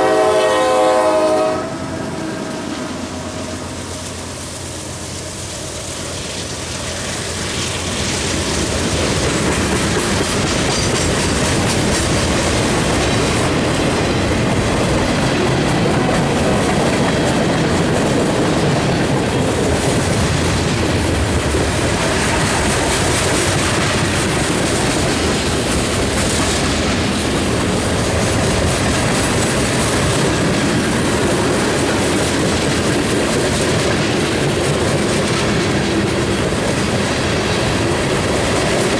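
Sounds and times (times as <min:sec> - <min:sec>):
train wheel squeal: 0:00.0 - 0:35.8
freight train wheels clattering: 0:00.0 - 0:38.9.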